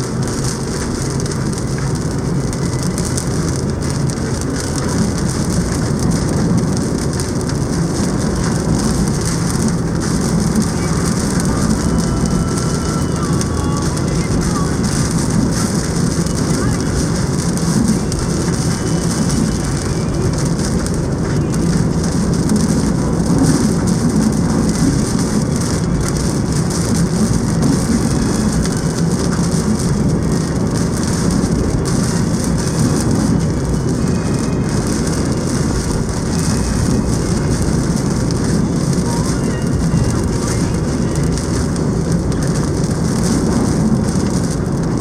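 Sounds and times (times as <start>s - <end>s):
heavy rain hissing: 0.0s - 45.0s
low rumble: 0.0s - 45.0s
strong wind rushing: 0.0s - 45.0s.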